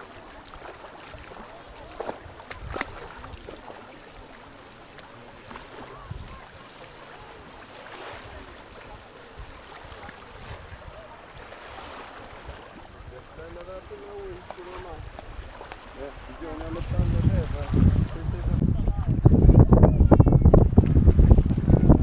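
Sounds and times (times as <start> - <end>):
waves washing onto beach: 0.0 - 19.5.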